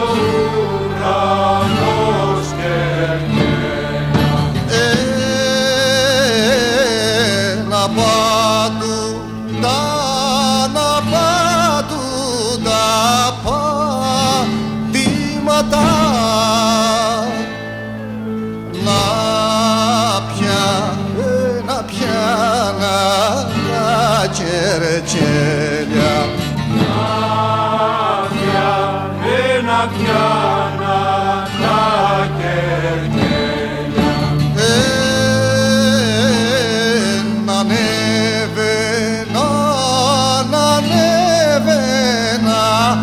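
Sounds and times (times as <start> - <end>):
man singing with vibrato: 0.0 - 43.0
sustained low accompanying notes: 0.0 - 43.0.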